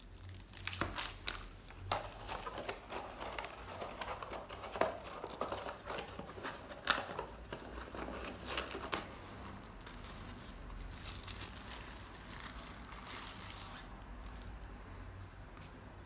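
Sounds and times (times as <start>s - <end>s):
plastic bag crinkling: 0.0s - 14.3s.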